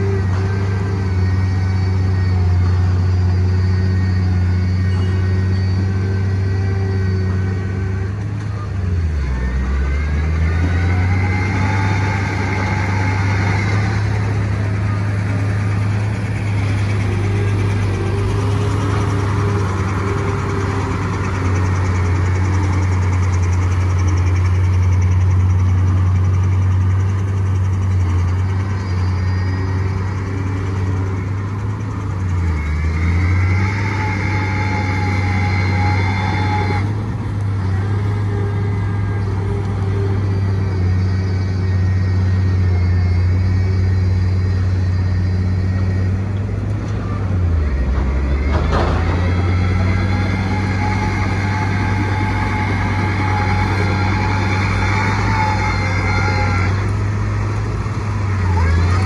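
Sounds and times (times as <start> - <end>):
diesel engine running: 0.0 - 59.0
high whine: 0.0 - 59.0.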